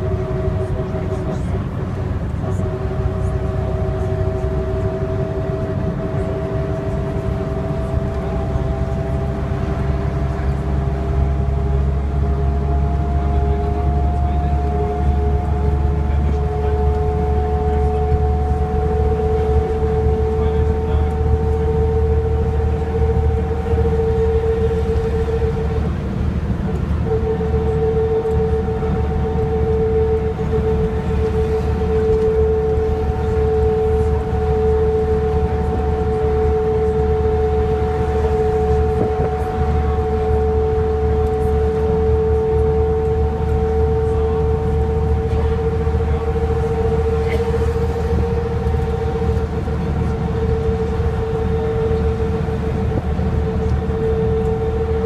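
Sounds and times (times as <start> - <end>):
diesel engine rumble: 0.0 - 55.0
drivetrain whine: 0.0 - 55.0
road noise: 0.0 - 55.0.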